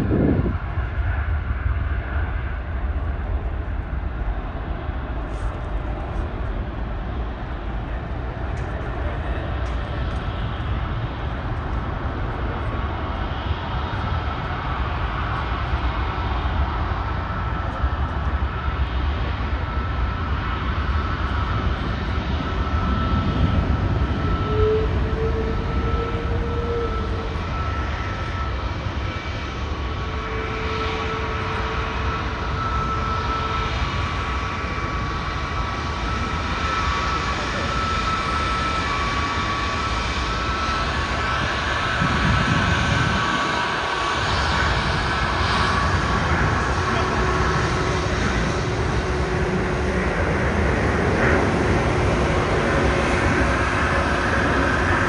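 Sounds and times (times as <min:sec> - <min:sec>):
jet engines rumbling with whine: 0:00.0 - 0:55.0.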